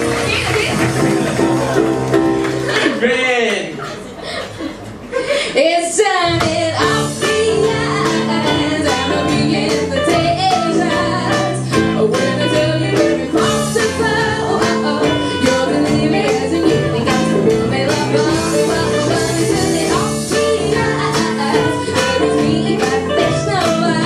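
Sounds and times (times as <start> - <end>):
live band playing: 0.0 - 2.9, 6.4 - 24.0.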